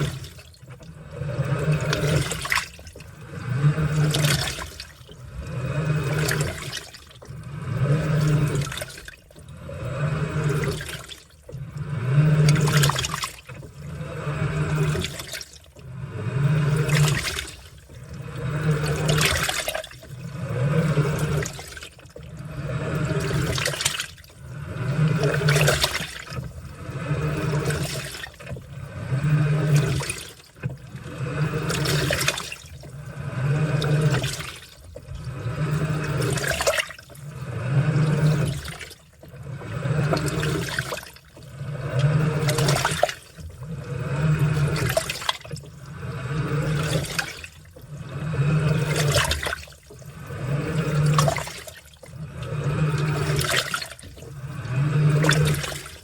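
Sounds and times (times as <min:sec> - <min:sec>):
washing machine motor hum: 0:00.0 - 0:56.0
water sloshing in washing machine: 0:00.0 - 0:56.0.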